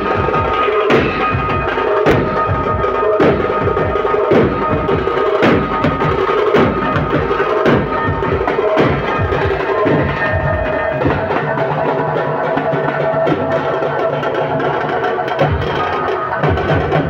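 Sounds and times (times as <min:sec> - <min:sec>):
drums beaten with sticks: 0:00.0 - 0:17.0.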